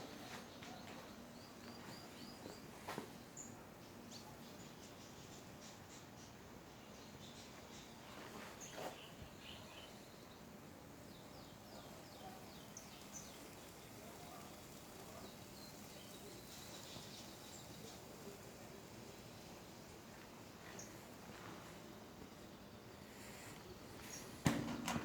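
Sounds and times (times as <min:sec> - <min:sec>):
distant birds chirping: 0:00.0 - 0:14.4, 0:15.1 - 0:25.0
faint background noise: 0:00.0 - 0:25.0.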